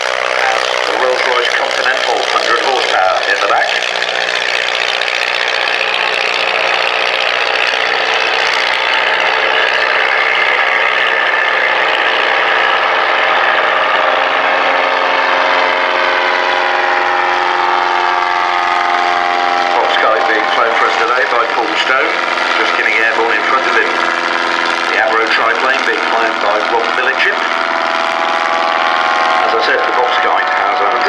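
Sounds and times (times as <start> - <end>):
aircraft piston engines droning: 0.0 - 31.0.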